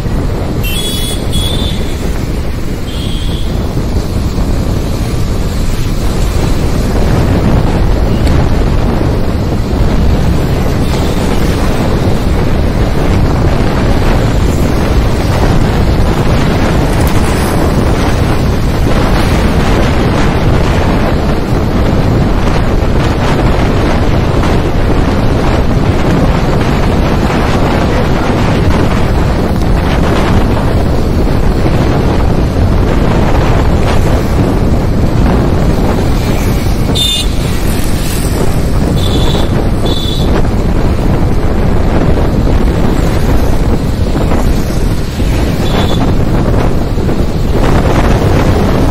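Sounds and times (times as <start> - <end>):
road and traffic noise: 0.0 - 48.9
wind buffeting microphone: 0.0 - 48.9.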